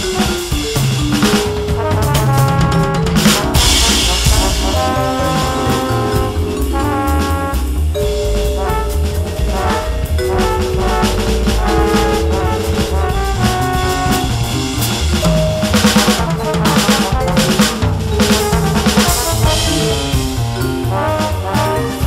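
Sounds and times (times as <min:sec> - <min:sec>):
electronic drum kit swing beat: 0:00.0 - 0:22.0
moving bass line: 0:00.0 - 0:22.0
held horn-like melody notes: 0:01.7 - 0:22.0.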